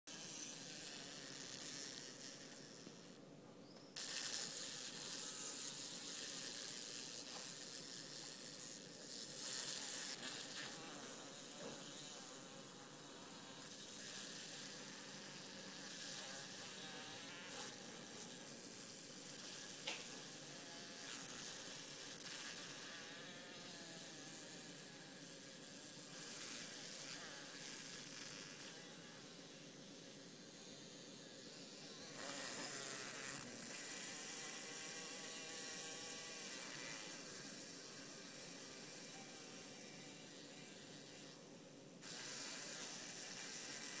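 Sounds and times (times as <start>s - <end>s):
large fly buzzing: 0.1s - 3.2s, 3.9s - 44.0s
steady background hiss: 0.1s - 44.0s.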